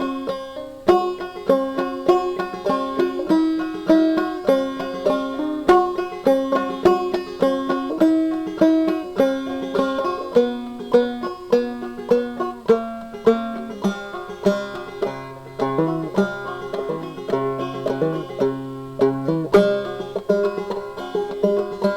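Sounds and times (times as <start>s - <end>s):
plucked banjo tune: 0.0s - 21.9s.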